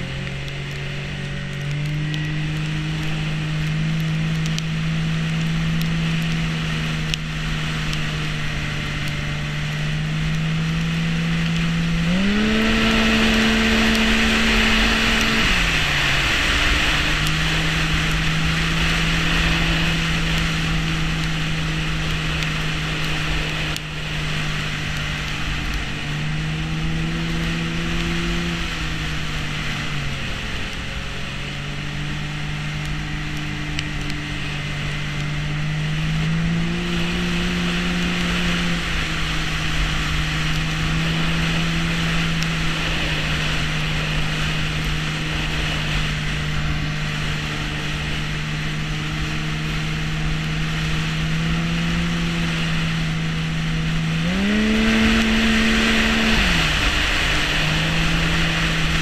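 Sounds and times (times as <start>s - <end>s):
snowmobile engine running: 0.0s - 59.0s
track hiss and wind: 0.0s - 59.0s.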